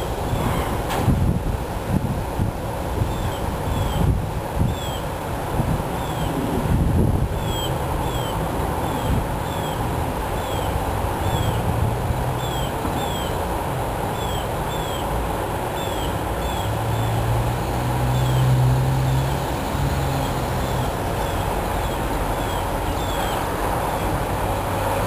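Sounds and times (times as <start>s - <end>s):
distant road traffic rumble: 0.0s - 25.0s
engine hum: 0.0s - 25.0s.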